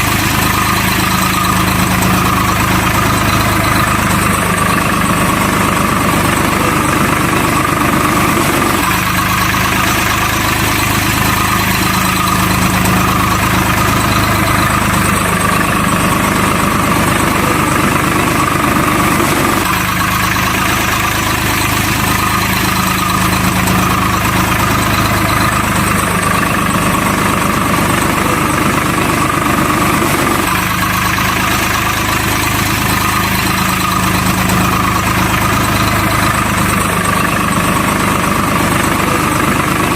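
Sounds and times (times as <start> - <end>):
engine-like drone: 0.0 - 39.9.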